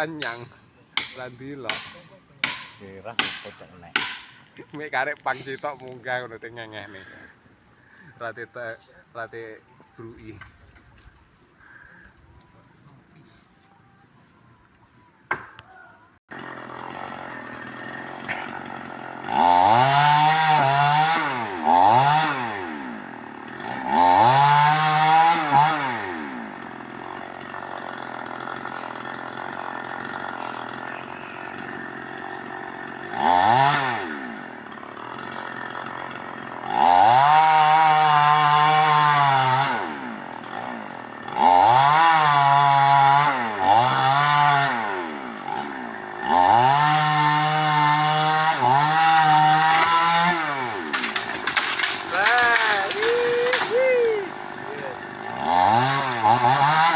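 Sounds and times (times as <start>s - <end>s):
chainsaw idling and revving: 1.0s - 7.4s, 16.3s - 56.9s.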